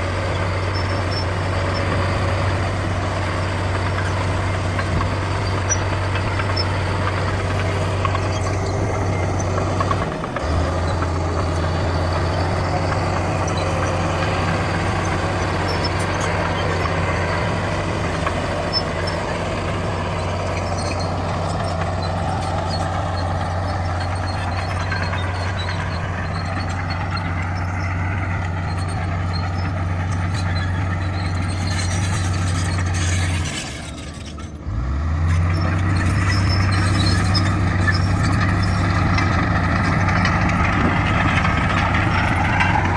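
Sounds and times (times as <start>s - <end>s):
bulldozer diesel engine running: 0.0s - 42.9s
faint metallic squeaks: 0.3s - 34.6s, 35.3s - 42.9s.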